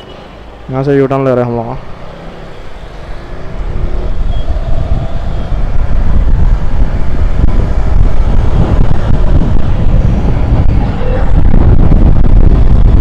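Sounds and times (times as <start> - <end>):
wind on microphone: 1.7 - 13.0
motorcycle engine running: 1.8 - 13.0.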